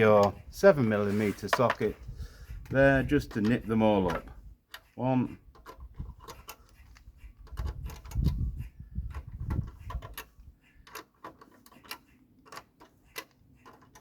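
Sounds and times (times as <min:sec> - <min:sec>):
metal clicks and knocks of tools: 0:00.0 - 0:02.0, 0:02.6 - 0:14.0.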